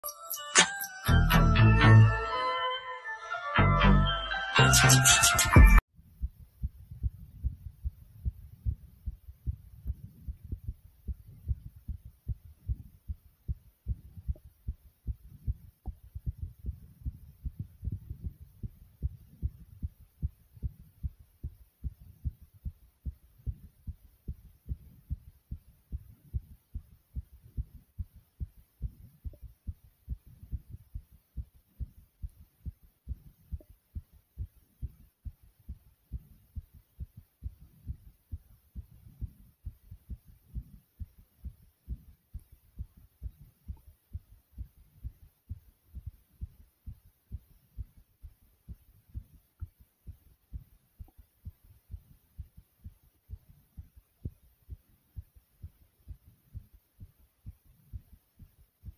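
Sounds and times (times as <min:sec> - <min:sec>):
fast heartbeat thumps: 0:05.6 - 0:58.9.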